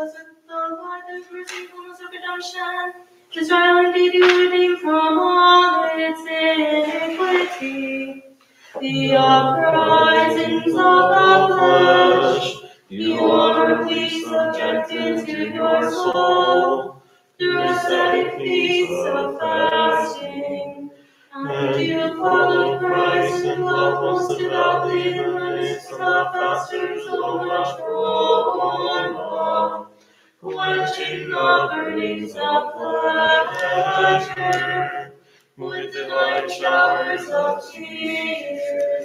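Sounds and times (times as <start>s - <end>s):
unaccompanied voices chanting a hymn: 0.0s - 39.0s.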